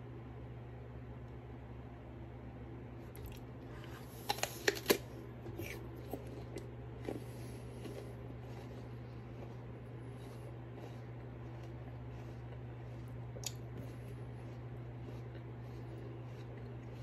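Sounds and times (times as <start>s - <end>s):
steady low hum: 0.0s - 17.0s
apple crunching: 3.1s - 17.0s.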